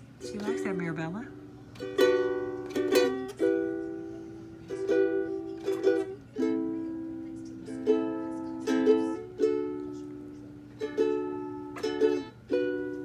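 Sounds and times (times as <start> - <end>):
strummed string chords: 0.0 - 13.0.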